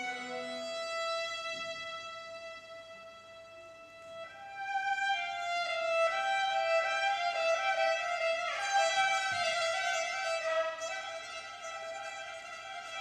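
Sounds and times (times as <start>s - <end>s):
violins playing slow melody: 0.0s - 13.0s.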